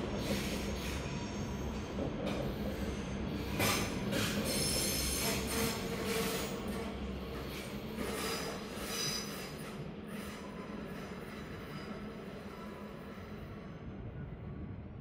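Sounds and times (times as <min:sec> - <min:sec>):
train wheels squealing on tracks: 0:00.0 - 0:14.4.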